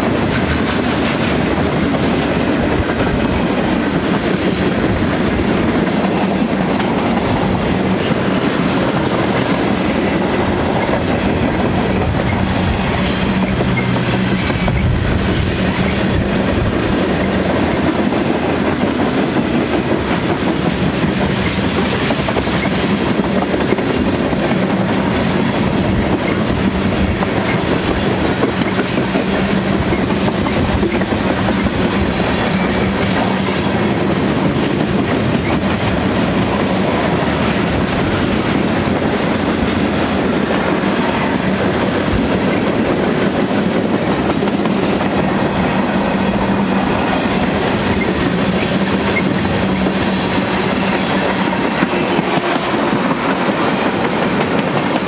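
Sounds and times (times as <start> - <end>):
clacking over rail joints: 0.0 - 55.0
train wheels rumbling on rail: 0.0 - 55.0.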